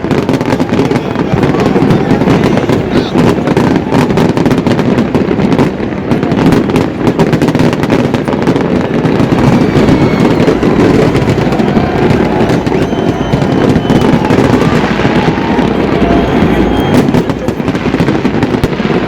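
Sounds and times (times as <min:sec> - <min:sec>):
faint whistling fireworks: 0:00.0 - 0:19.0
fireworks bangs and crackling: 0:00.0 - 0:19.0.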